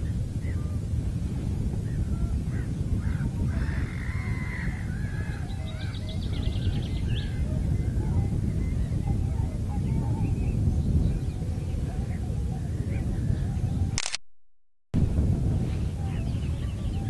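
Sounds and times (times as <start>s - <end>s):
distant wetland bird calls: 0.0s - 13.8s
wind rumble on microphone: 0.0s - 14.0s, 15.0s - 17.0s.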